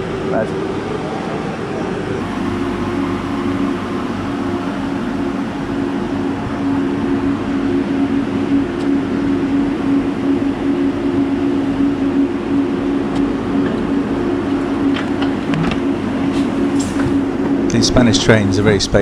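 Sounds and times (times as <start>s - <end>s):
constant low hum: 0.0s - 19.0s
high-speed train rumbling: 0.0s - 19.0s.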